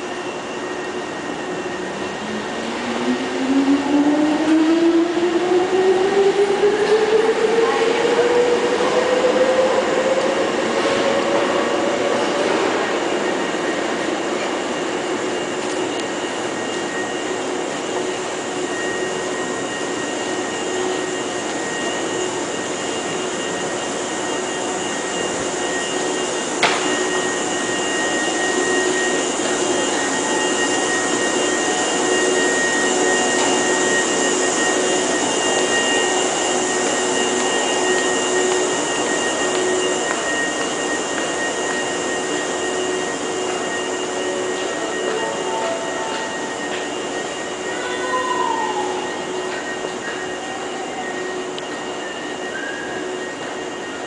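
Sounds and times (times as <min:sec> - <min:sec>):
train equipment whirring hum: 0:00.0 - 0:54.0.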